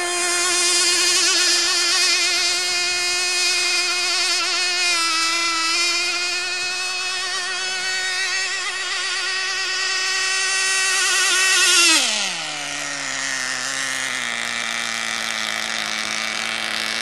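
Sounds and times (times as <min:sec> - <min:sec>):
small engine high whine: 0:00.0 - 0:17.0.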